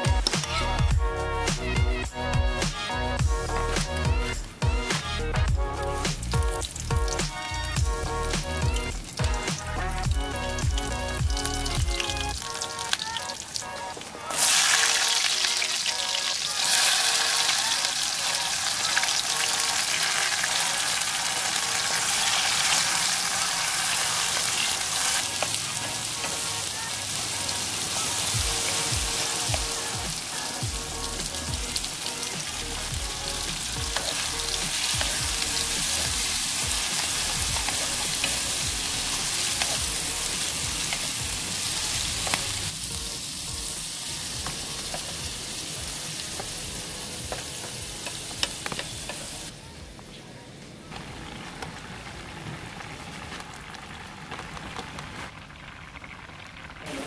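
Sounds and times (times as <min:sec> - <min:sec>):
vegetables sizzling in oil: 0:03.2 - 0:49.5.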